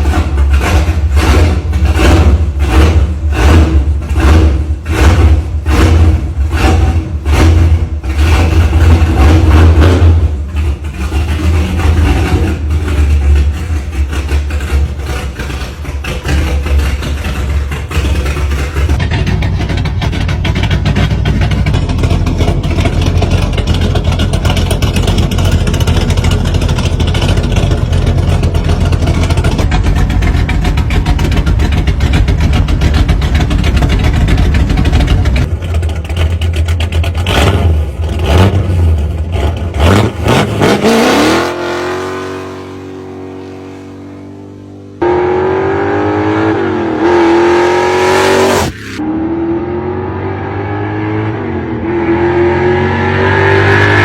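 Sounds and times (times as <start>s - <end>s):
car engine rumbling and revving: 0.0s - 54.0s.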